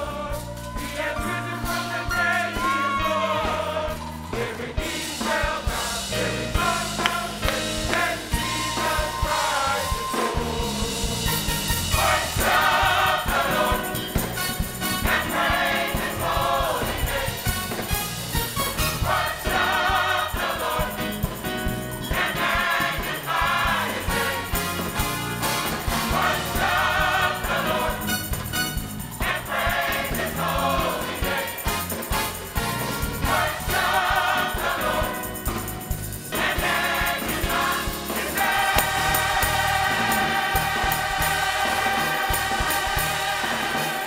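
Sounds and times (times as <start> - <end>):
drum kit with cymbals: 0.0 - 44.0
gospel choir singing: 0.0 - 44.0.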